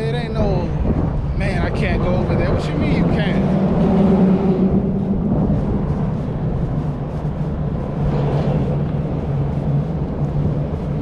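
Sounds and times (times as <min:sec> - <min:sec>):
constant low hum: 0:00.0 - 0:11.0
traffic rumble: 0:00.0 - 0:11.0.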